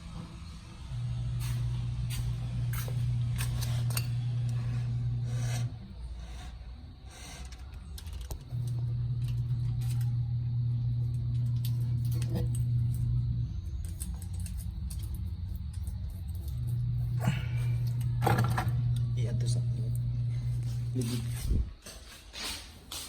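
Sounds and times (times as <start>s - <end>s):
low machine hum: 0.0s - 21.9s.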